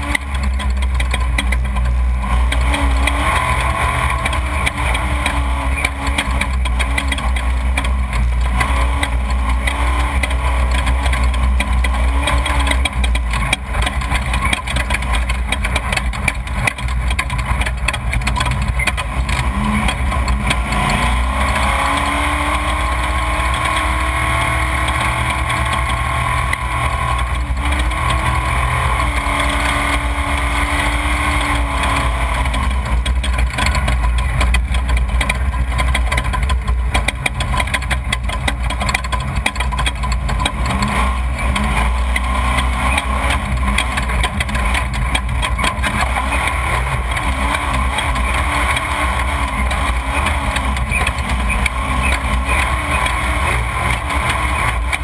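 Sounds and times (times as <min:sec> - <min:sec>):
race vehicle engine running: 0:00.0 - 0:55.0.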